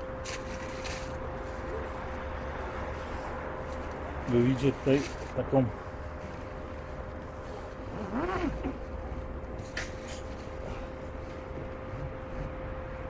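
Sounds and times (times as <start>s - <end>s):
constant whining tone: 0.0s - 13.0s
mechanical engine hum: 0.0s - 13.0s.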